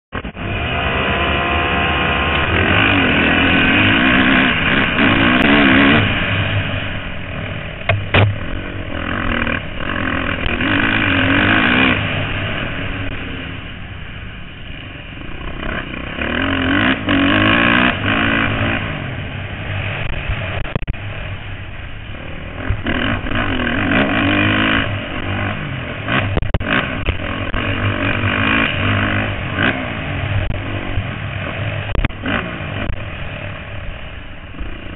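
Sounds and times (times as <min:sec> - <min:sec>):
dirt bike engines racing: 0:00.2 - 0:34.9.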